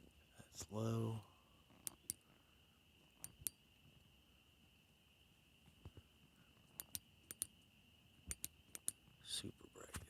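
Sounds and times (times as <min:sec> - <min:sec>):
faint high-pitched hum: 0:00.0 - 0:10.0.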